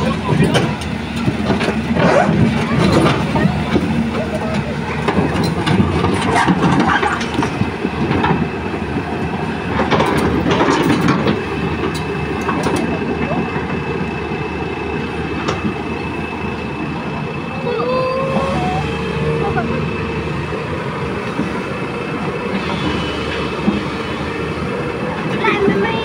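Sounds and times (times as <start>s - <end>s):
excavator running under load: 0.0s - 26.0s.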